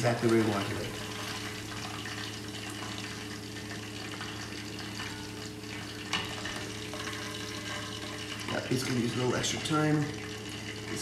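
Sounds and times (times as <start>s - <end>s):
food deep-frying in oil: 0.0s - 11.0s
steady low hum: 0.0s - 11.0s.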